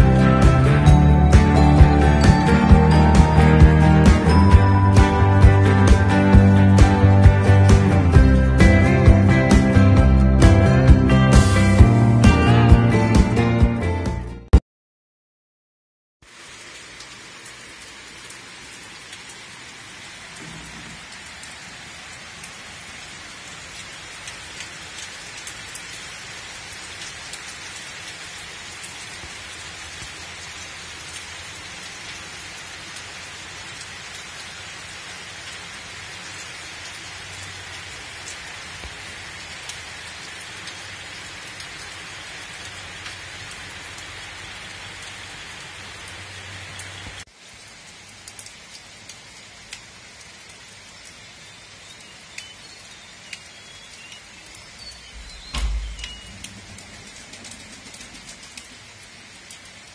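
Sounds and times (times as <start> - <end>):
rain falling on trees: 0.0 - 12.3, 16.2 - 59.9.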